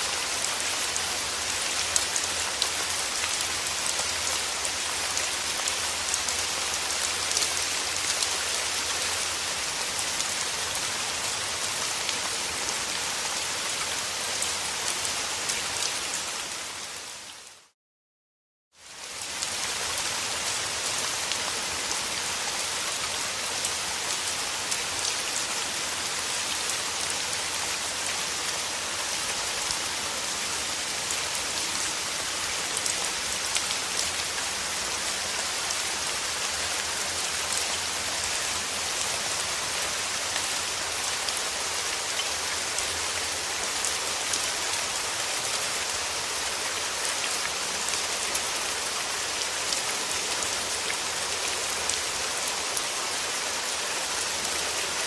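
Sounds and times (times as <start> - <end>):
rain pattering on a surface: 0.0 - 17.7, 18.8 - 55.0.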